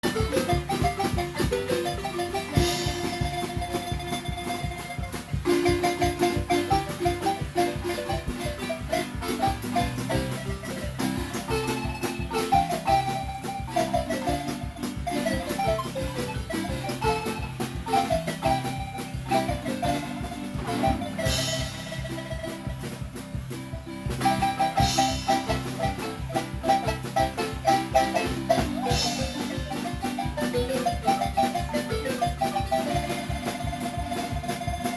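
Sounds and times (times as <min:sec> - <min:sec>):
marimba ensemble playing: 0:00.0 - 0:34.9.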